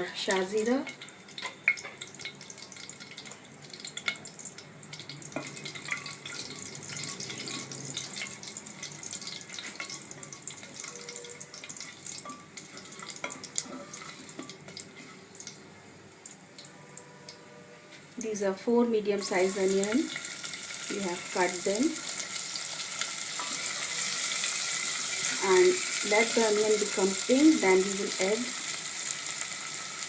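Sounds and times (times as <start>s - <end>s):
spices sizzling in hot oil: 0.0s - 30.0s.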